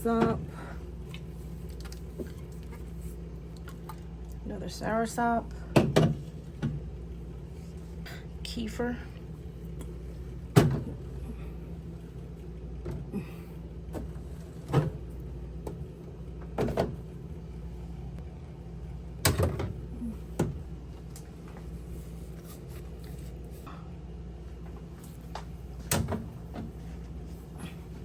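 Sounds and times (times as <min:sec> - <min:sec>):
refrigerator hum: 0:00.0 - 0:28.0.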